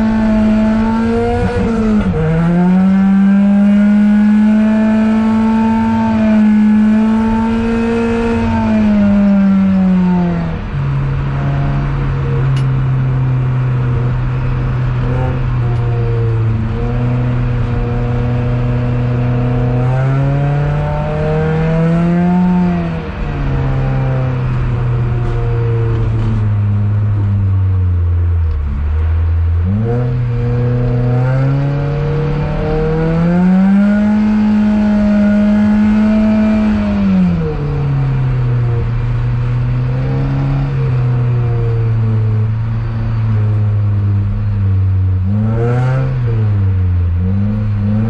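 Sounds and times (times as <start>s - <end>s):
car engine from inside cabin: 0.0s - 48.0s.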